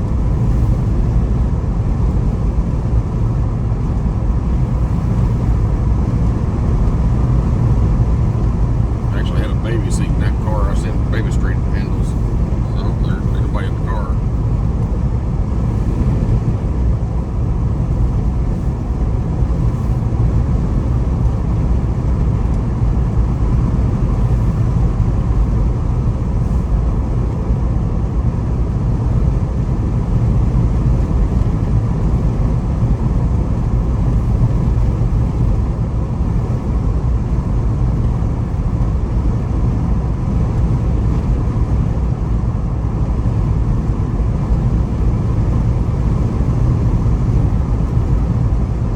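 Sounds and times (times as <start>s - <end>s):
engine and road noise in cabin: 0.0s - 48.9s.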